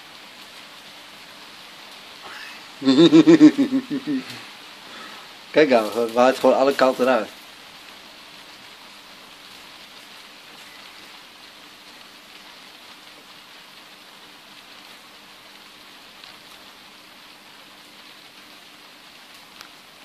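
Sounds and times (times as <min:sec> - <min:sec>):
light rain on paving: 0:00.0 - 0:20.0
paper burning crackles: 0:00.0 - 0:20.0.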